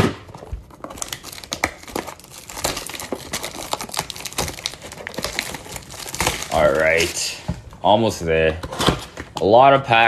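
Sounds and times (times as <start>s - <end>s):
plastic packaging crackling: 0.4s - 9.6s.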